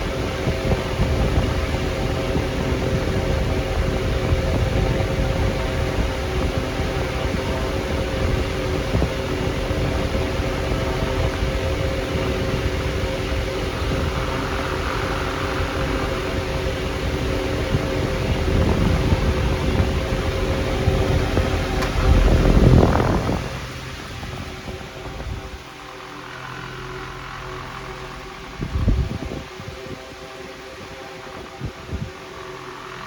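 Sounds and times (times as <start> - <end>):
stand fan running: 0.0 - 33.0.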